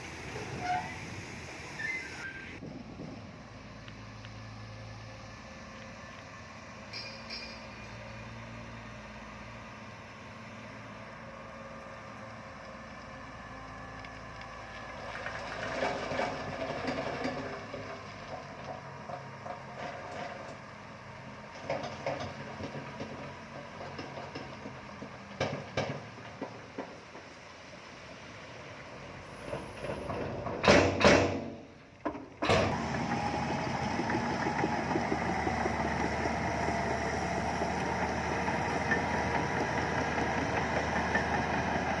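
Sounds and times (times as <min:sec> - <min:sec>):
bulldozer diesel engine running: 0:00.0 - 0:30.7, 0:32.4 - 0:42.0.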